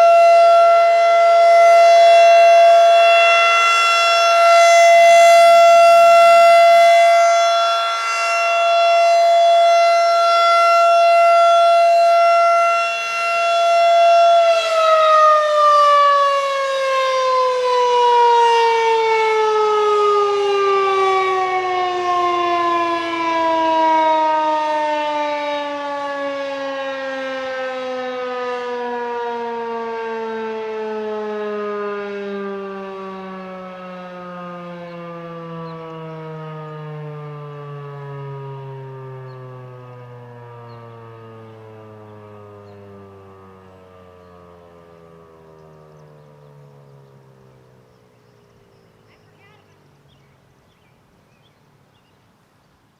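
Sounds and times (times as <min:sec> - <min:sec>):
warning siren wailing: 0:00.0 - 0:51.9.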